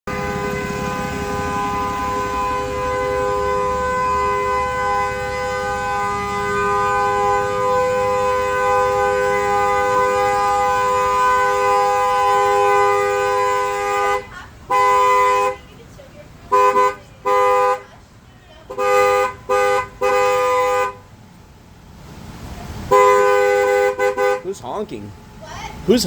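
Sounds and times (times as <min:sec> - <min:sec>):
car horn blaring: 0:00.0 - 0:15.8, 0:16.5 - 0:21.2, 0:22.9 - 0:25.1.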